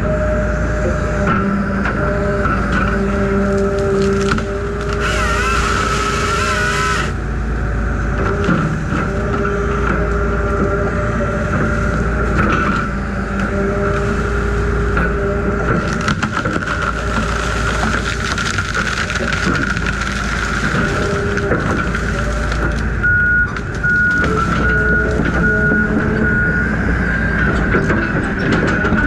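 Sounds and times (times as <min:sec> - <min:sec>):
heavy machine engine and hydraulics: 0:00.0 - 0:29.0.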